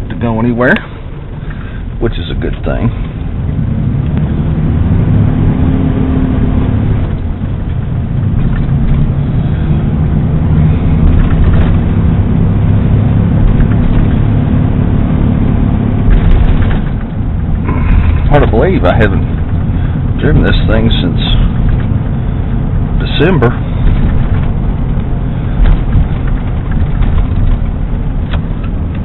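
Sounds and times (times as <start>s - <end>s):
truck engine and road hum: 0.0s - 29.0s.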